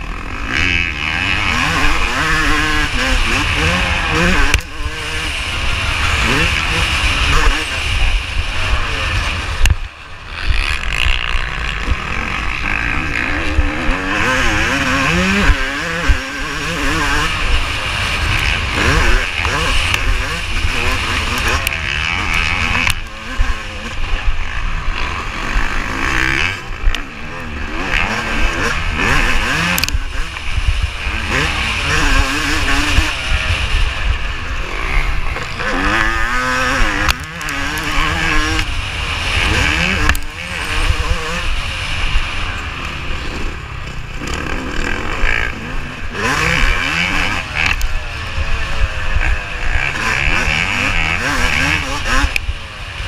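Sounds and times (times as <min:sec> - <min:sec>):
motocross engine revving: 0:00.0 - 0:53.0.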